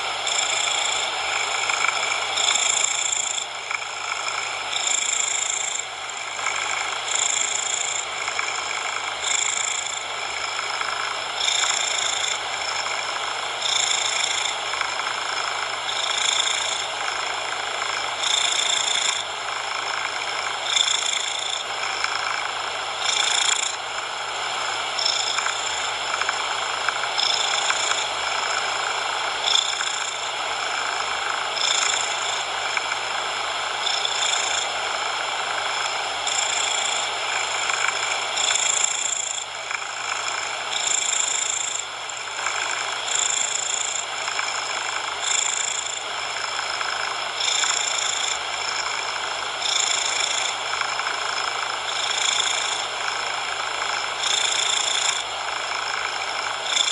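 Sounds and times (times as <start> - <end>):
cat purring: 0.0 - 56.9.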